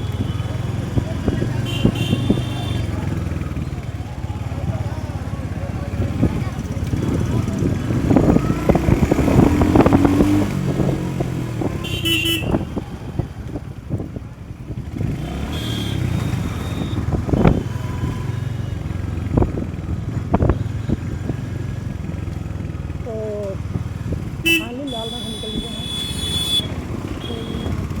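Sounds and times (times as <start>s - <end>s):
motorcycle running: 0.0s - 28.0s.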